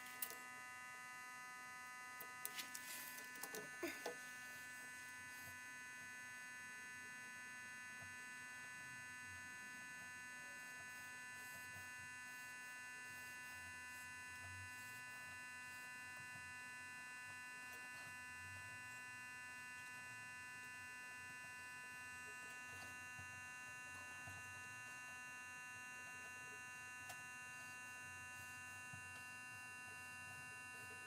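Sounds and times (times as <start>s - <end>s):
electrical whine and hum: 0.0s - 31.0s.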